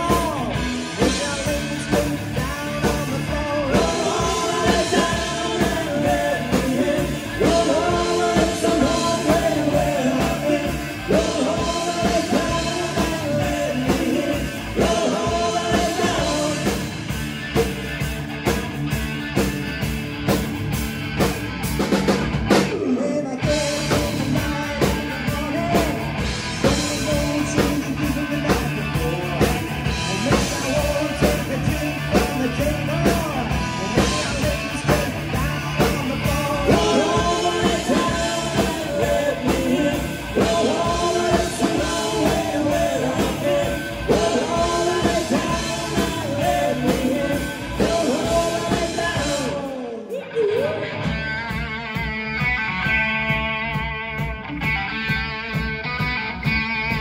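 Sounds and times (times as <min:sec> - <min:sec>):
man singing: 0:00.0 - 0:17.2, 0:22.6 - 0:51.3
drum kit: 0:00.0 - 0:57.0
electric guitar: 0:00.0 - 0:57.0.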